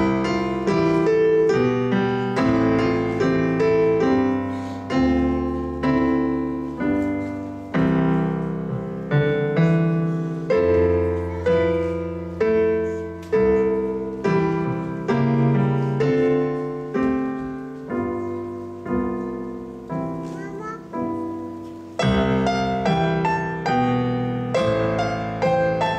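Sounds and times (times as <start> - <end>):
piano chords ringing: 0.0 - 25.9.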